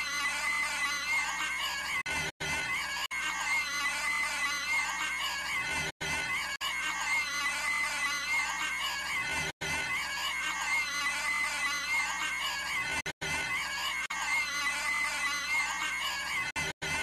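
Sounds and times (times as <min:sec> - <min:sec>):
cartoon character squealing scream: 0:00.0 - 0:17.0.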